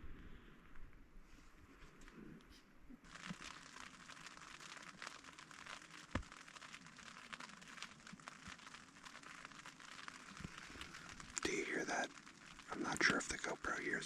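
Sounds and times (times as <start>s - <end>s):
light rain pattering on tent: 1.2s - 14.0s.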